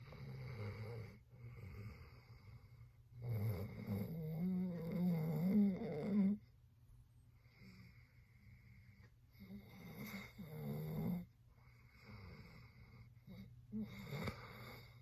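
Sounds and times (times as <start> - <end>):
dog snoring: 0.0 - 6.5, 7.4 - 15.0.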